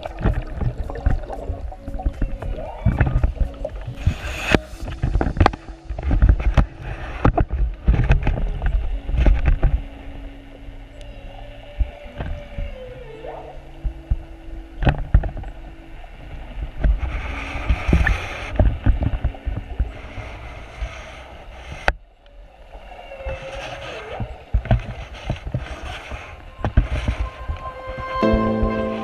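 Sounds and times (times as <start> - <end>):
low hum of boat motor: 0.0 - 29.0
underwater rushing water: 0.0 - 29.0.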